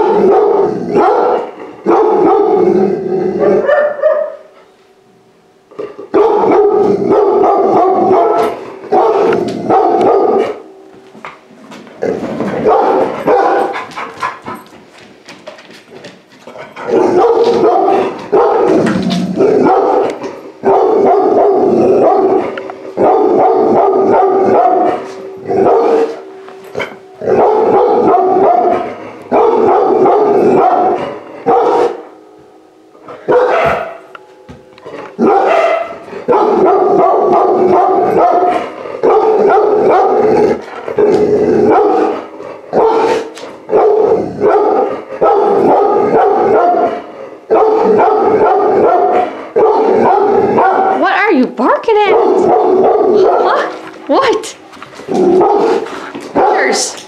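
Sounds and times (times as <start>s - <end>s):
puppy barking loudly: 0.0s - 2.7s, 3.4s - 4.5s, 6.1s - 10.6s, 12.6s - 14.5s, 16.9s - 26.2s, 27.2s - 32.1s, 33.3s - 34.0s, 35.2s - 40.6s, 41.7s - 57.0s.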